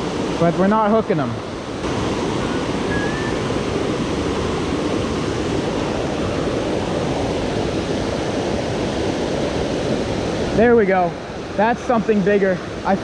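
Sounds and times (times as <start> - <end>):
water rushing over waterfall: 0.0 - 13.0.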